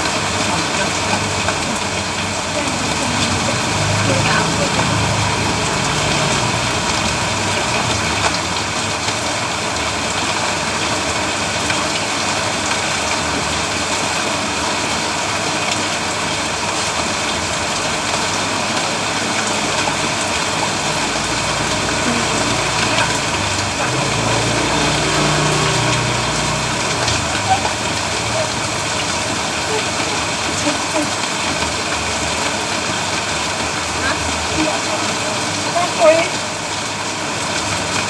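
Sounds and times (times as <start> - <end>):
heavy rain on a road: 0.0 - 38.0.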